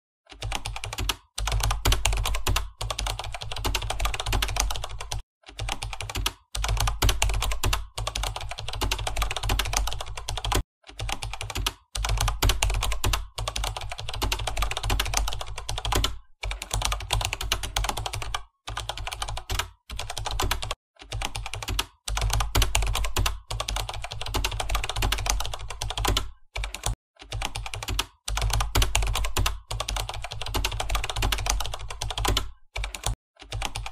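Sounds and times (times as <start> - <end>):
fast typing on laptop keyboard: 0.3 - 33.9.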